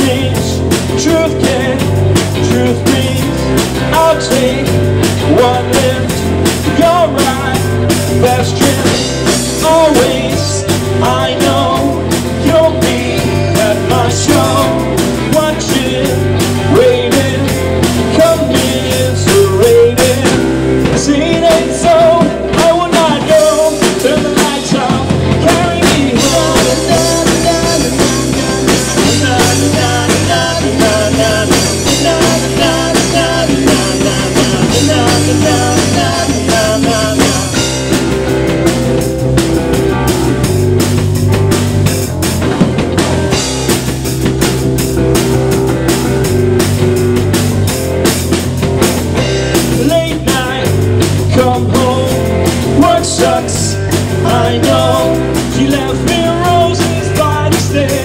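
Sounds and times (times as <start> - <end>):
man singing lead vocals: 0.0 - 40.6, 49.2 - 58.0
bass guitar: 0.0 - 58.0
drum kit beat: 0.0 - 58.0
electric guitar: 0.0 - 58.0.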